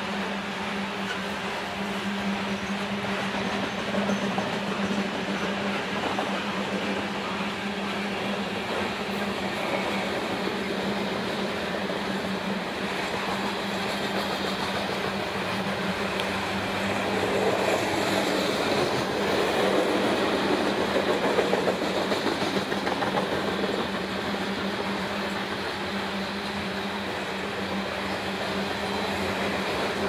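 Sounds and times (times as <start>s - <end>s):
freight train wheels clattering: 0.0s - 30.0s.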